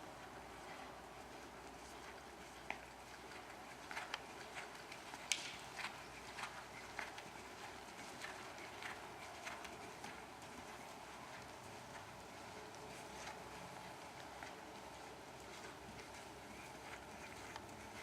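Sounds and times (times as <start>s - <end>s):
horse hooves striking ground: 0.0s - 18.0s.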